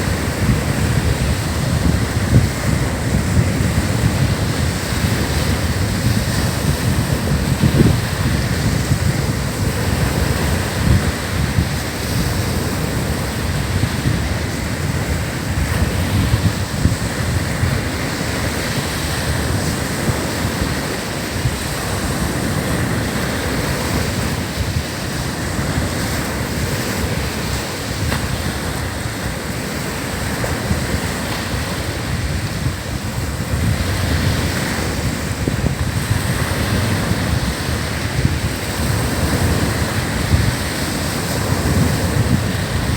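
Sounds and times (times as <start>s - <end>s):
ocean surf on beach: 0.0s - 42.9s
wind buffeting microphone: 0.0s - 42.9s.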